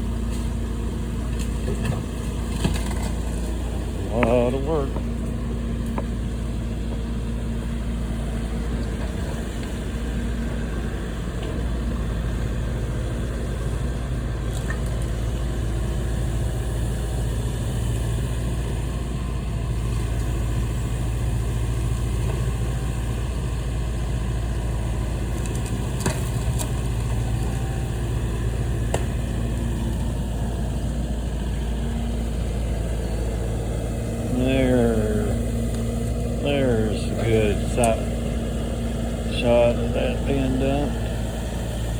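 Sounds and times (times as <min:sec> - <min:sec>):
heavy machine engine running: 0:00.0 - 0:41.9.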